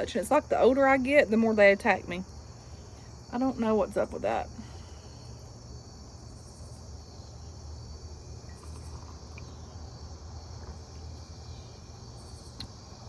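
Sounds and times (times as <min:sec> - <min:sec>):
crickets and katydids trilling: 0:00.0 - 0:13.0
steady low hum: 0:00.0 - 0:13.0.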